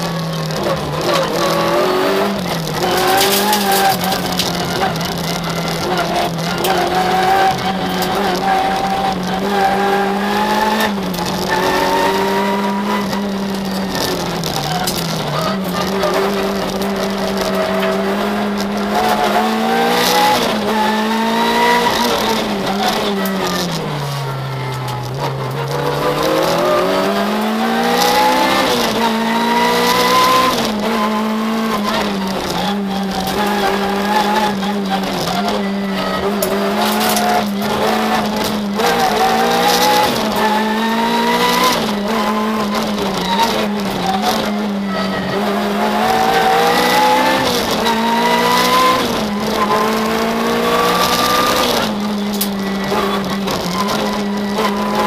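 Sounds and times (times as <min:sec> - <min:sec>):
rally car engine running hard: 0:00.0 - 0:55.0.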